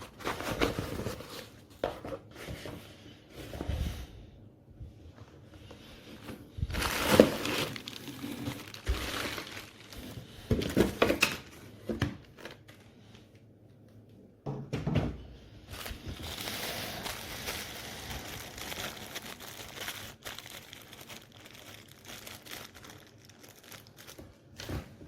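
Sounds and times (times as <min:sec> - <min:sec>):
crinkling and rustling: 0:00.0 - 0:04.1, 0:05.1 - 0:13.4, 0:15.7 - 0:25.0.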